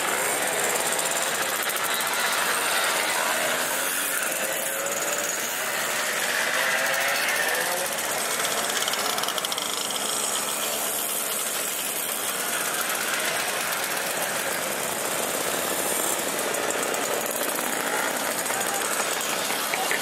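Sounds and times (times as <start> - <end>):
mopeds and motorcycles riding past: 0.0 - 20.0.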